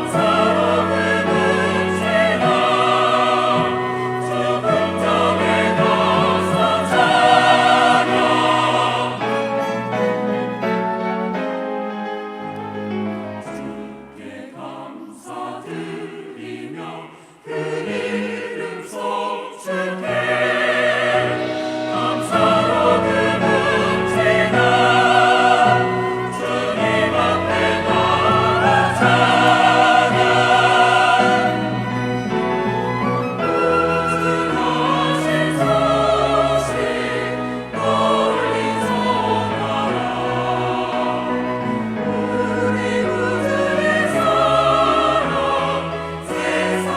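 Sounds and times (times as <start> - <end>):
instrumental accompaniment: 0.0 - 14.4, 19.9 - 46.9
church choir singing: 0.0 - 46.9.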